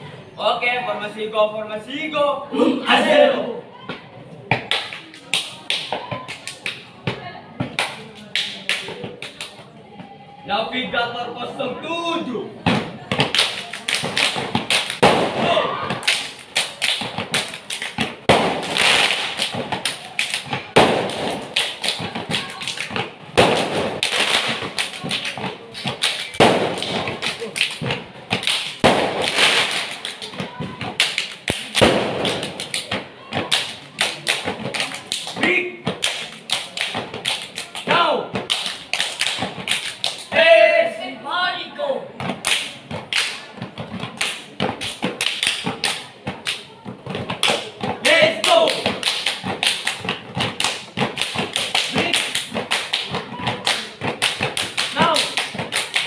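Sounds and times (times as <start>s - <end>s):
hand claps and slaps: 4.5s - 6.9s, 7.6s - 9.6s, 12.7s - 40.4s, 42.2s - 56.0s.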